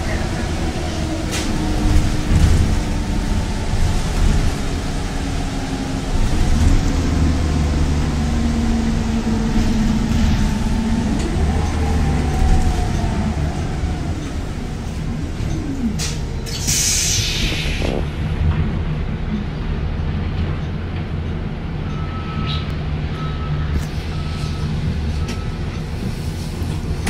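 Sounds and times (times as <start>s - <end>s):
vehicle engines rumbling and revving: 0.0s - 27.0s.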